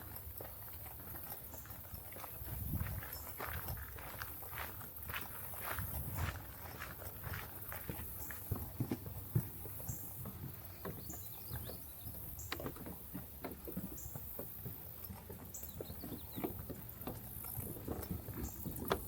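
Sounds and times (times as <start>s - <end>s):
footsteps crunching on trail: 0.0s - 19.0s.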